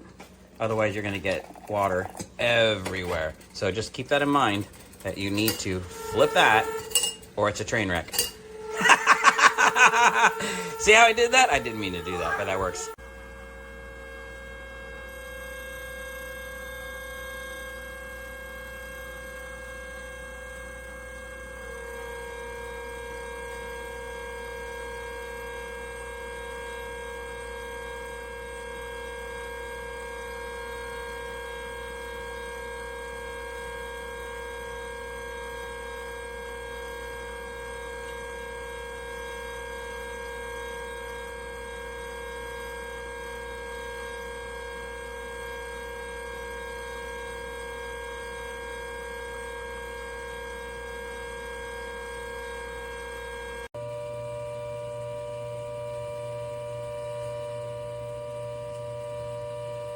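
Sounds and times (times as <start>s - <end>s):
tea kettle whistling: 0.0s - 59.9s.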